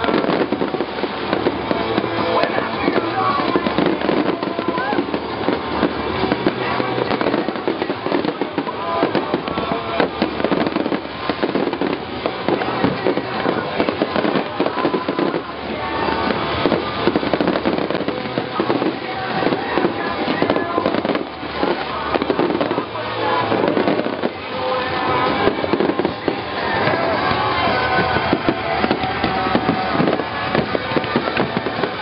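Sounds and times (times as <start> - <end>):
firework shell bursts and crackling: 0.0 - 32.0
music playing: 0.0 - 32.0.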